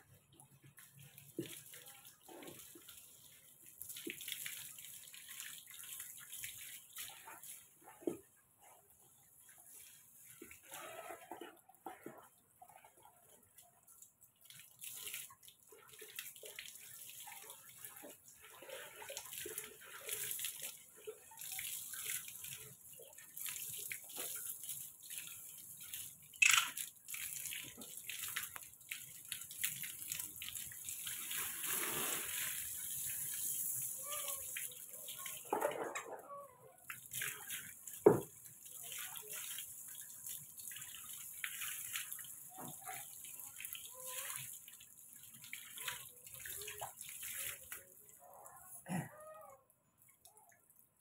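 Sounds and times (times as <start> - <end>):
hose water splashing: 0.7 - 48.9.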